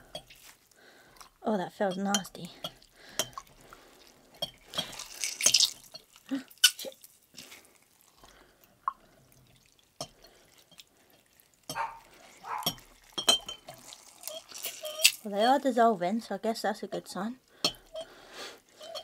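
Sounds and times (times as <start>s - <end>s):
water dripping into a bowl: 0.0s - 15.6s.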